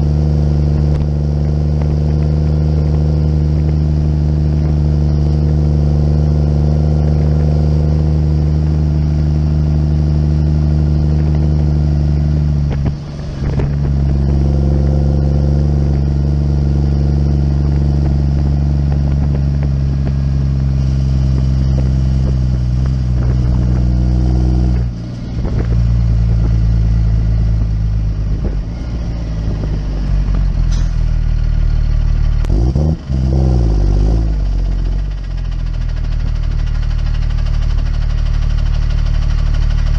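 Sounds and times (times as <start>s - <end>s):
small dumper engine running: 0.0s - 39.9s.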